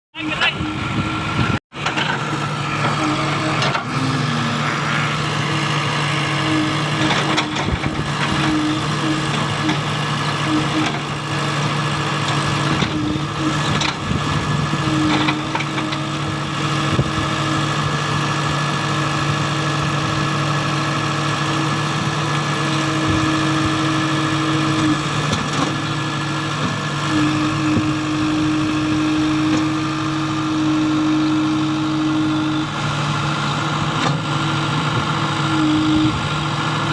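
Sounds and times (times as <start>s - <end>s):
diesel engine running: 0.1s - 36.9s.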